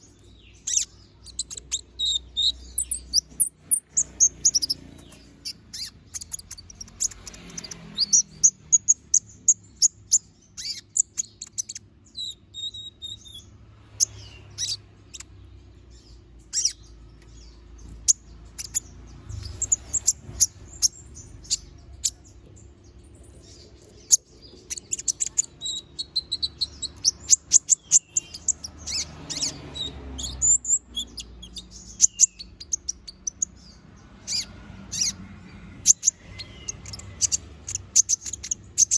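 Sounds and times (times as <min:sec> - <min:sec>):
sunbird singing: 0:00.0 - 0:38.9.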